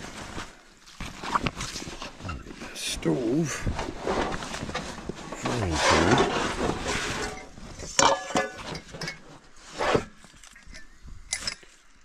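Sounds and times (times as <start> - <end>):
nylon fabric rustling: 0.0 - 10.5.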